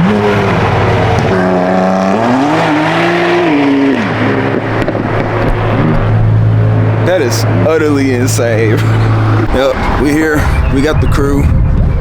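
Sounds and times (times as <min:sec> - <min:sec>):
sports car engine idling and revving: 0:00.0 - 0:12.0.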